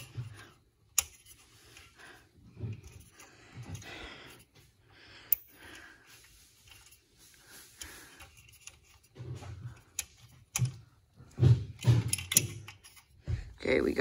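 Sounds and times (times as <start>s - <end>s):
hand tool clicking and scraping metal: 0.0s - 4.6s, 5.2s - 13.2s.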